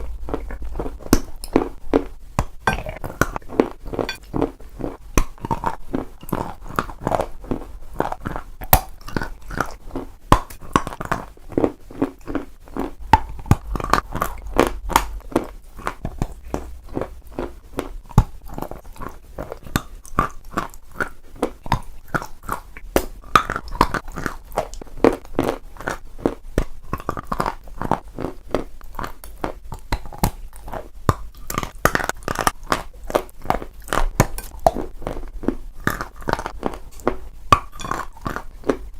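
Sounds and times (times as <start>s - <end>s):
crunching and chewing: 0.0s - 38.9s.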